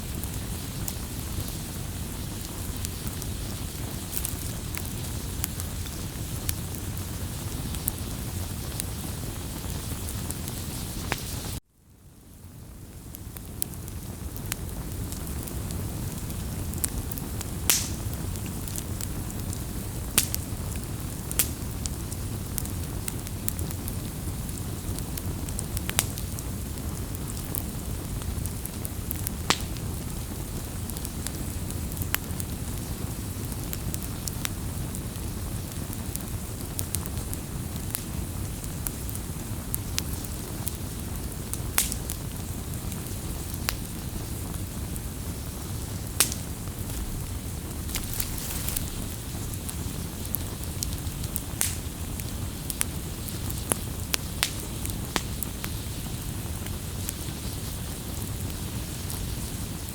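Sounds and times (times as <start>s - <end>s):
low rush of flames: 0.0s - 11.6s, 12.3s - 59.9s
wood fire crackling and popping: 0.0s - 11.6s, 12.3s - 59.9s.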